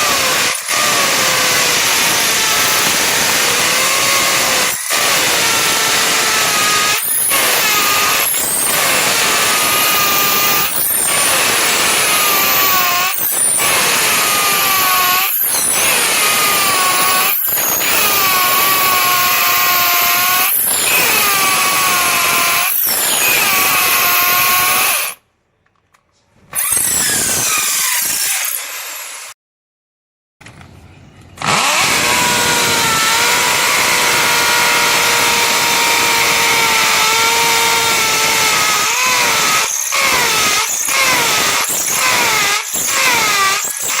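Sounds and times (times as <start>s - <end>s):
electric drill running: 0.0s - 25.2s, 26.6s - 29.4s, 31.4s - 44.0s.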